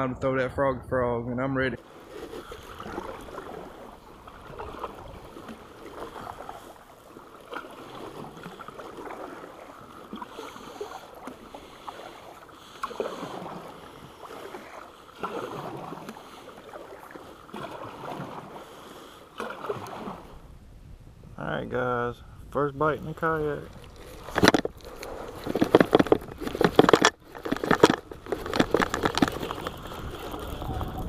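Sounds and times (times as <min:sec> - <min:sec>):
paddle splashing through water: 0:01.8 - 0:20.5, 0:23.0 - 0:31.0.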